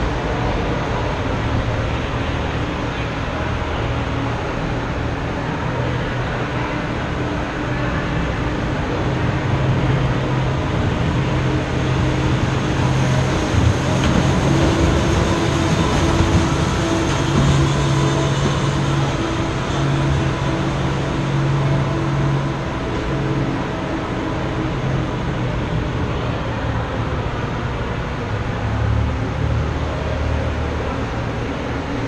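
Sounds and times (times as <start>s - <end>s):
rumbling rink background noise: 0.0s - 32.0s.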